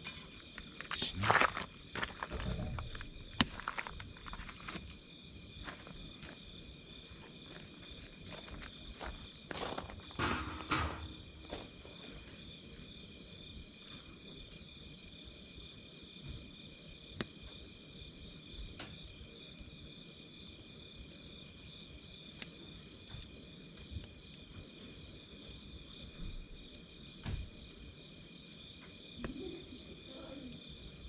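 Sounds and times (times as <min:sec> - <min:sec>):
insect chirping: 0:00.0 - 0:31.0
wood fire crackling: 0:00.0 - 0:31.0.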